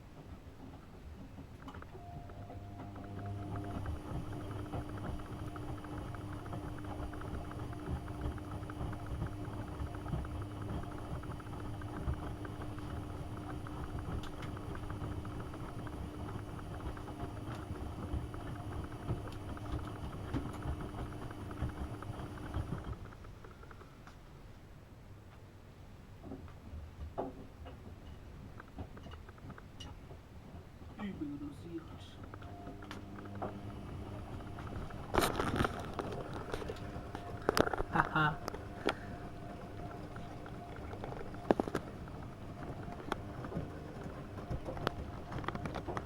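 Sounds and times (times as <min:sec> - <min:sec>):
washing machine running: 0:00.0 - 0:23.4, 0:30.4 - 0:46.0.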